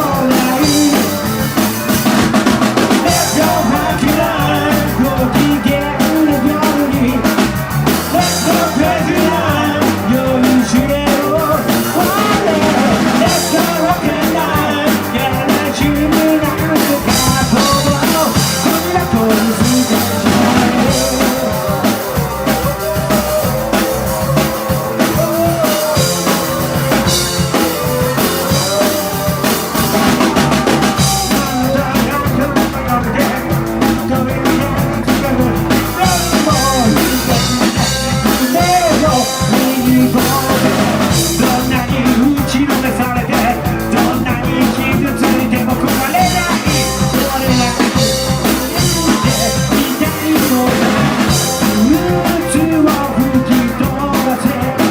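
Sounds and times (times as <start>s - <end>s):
rock band playing live: 0.0s - 54.9s.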